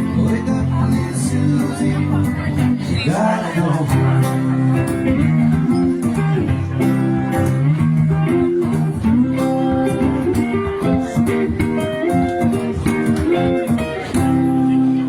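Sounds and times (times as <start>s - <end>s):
electric guitars: 0.0s - 15.0s
live rock band playing: 0.0s - 15.0s.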